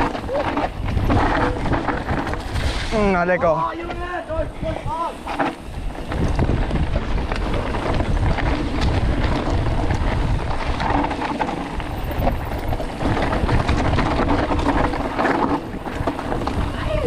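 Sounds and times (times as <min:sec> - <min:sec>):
bike rattling over roots: 0:00.0 - 0:17.0
bike tyre noise: 0:00.0 - 0:17.0
wind on microphone: 0:00.0 - 0:17.0.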